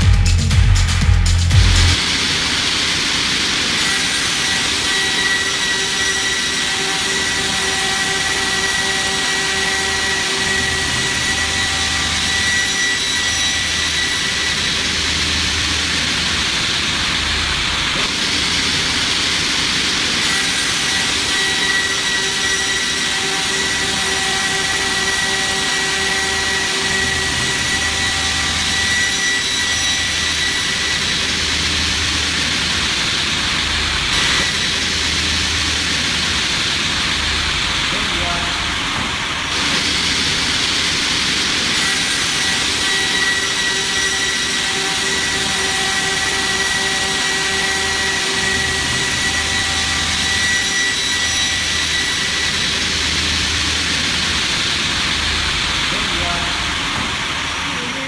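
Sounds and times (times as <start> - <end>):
log-sawing machine running: 1.5 - 58.0.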